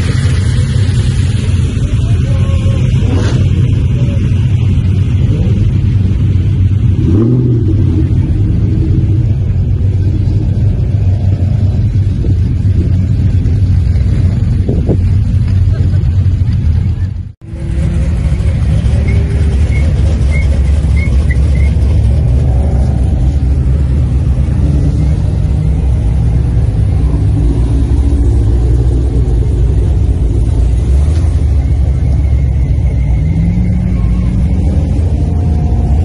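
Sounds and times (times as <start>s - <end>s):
car engine running at low revs: 0.0s - 36.0s.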